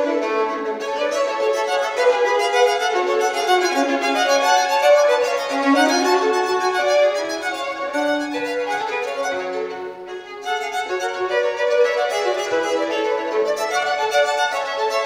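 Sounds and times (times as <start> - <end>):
violins playing a duet: 0.0 - 15.0.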